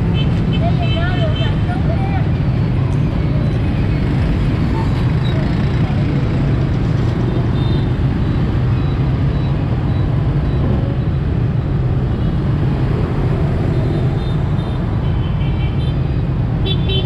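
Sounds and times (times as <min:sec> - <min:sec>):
low traffic rumble: 0:00.0 - 0:17.0
motorbikes and scooters passing: 0:00.4 - 0:15.1.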